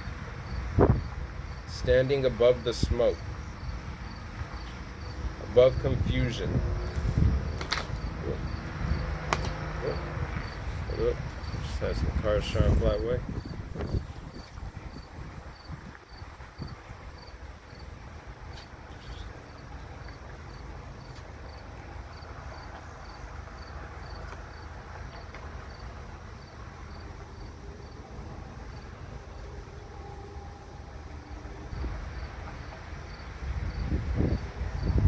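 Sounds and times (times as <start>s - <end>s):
insect chirping: 0.0s - 35.0s.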